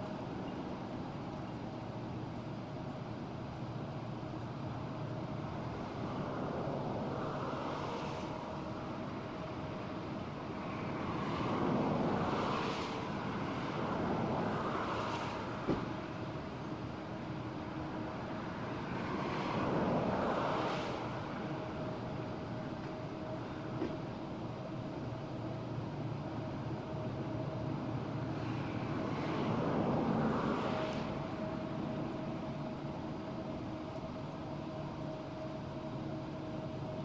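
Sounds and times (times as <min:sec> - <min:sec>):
distant freight train rumbling: 0:00.0 - 0:37.0.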